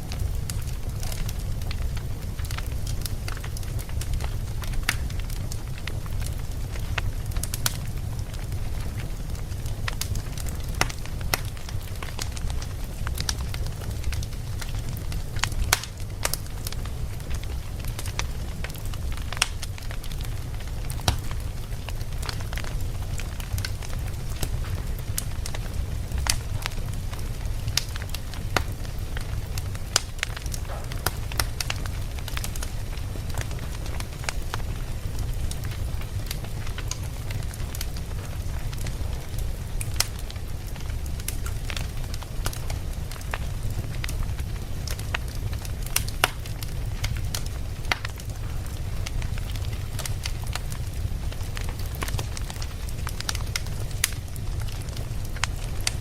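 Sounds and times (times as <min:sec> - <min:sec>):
burning wood crackling and popping: 0:00.0 - 0:56.0
campfire flames rumbling: 0:00.0 - 0:56.0.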